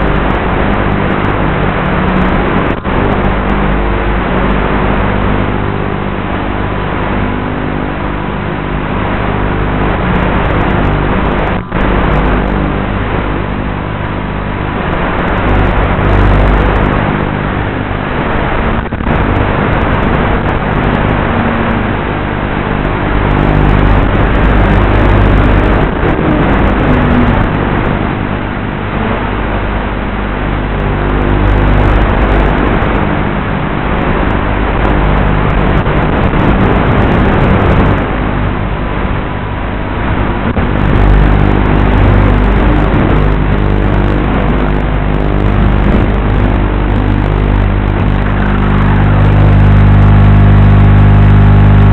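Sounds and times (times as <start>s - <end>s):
electric motor and propeller: 0.0s - 51.9s.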